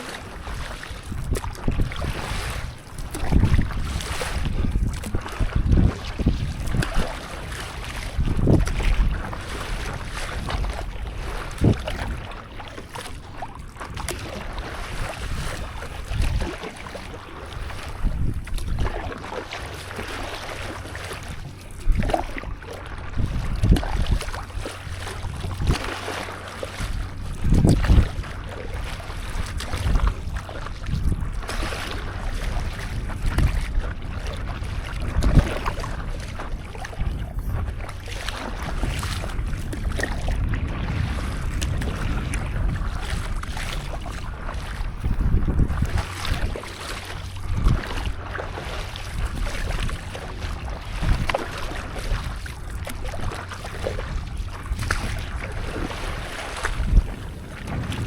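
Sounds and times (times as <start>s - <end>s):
water splashing around paddleboard: 0.0s - 58.0s
wind buffeting microphone: 0.0s - 58.0s.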